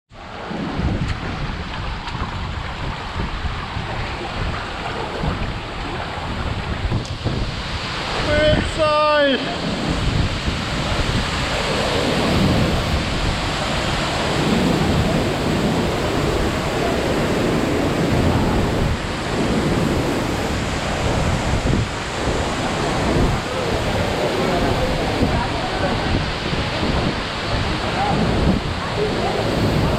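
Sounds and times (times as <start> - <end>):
waterfall rushing: 0.2 - 29.9.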